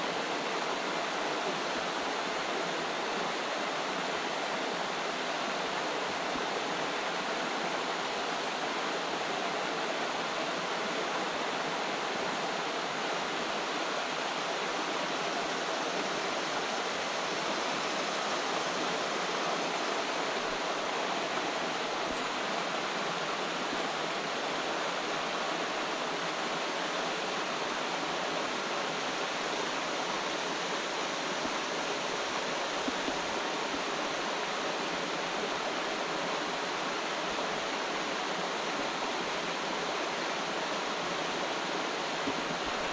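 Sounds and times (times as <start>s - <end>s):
flowing water rushing: 0.0s - 42.9s.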